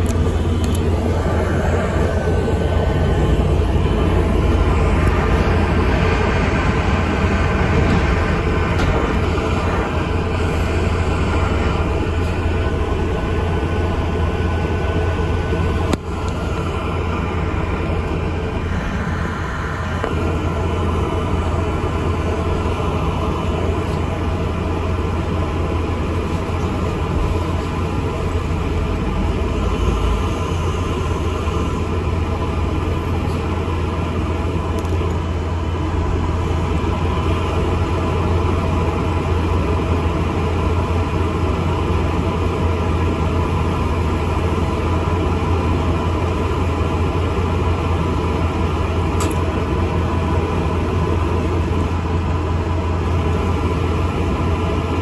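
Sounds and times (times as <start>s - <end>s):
bus engine drone: 0.0s - 55.0s
bus rattling: 0.0s - 55.0s
road noise: 0.0s - 55.0s.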